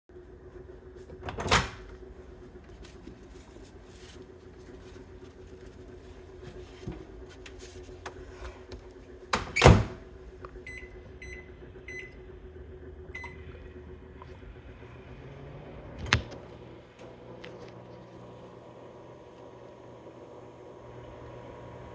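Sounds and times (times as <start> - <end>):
microwave oven humming: 0.1 - 21.9.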